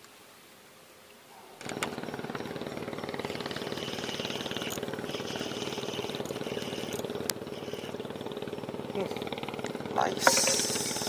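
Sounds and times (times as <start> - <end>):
small engine running: 1.6 - 11.0.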